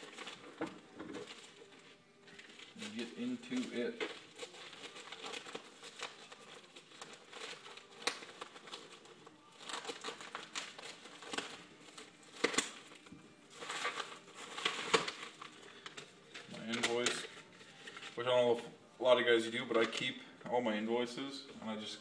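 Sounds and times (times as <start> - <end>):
wrap crinkling and rustling: 0.0 - 20.2.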